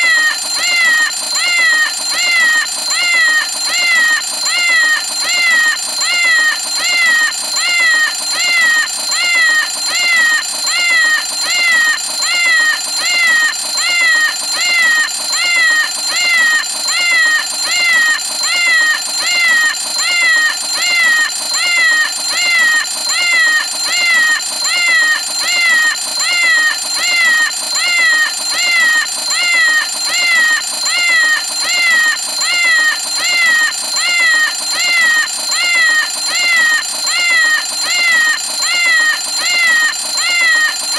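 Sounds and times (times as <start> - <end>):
alarm clock meowing: 0.0 - 40.9
high-pitched alarm ring: 0.0 - 40.9.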